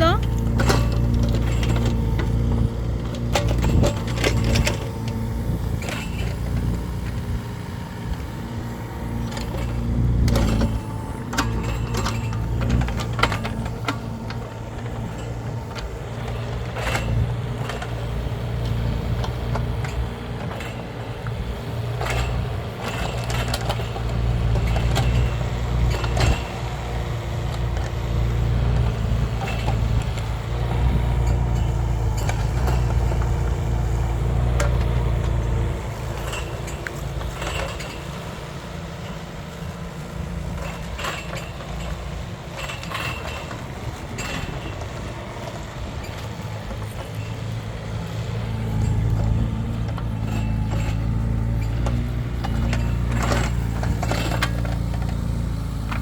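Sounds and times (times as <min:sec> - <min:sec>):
excavator engine running: 0:00.0 - 0:56.0
metal clanks and knocks: 0:00.0 - 0:56.0.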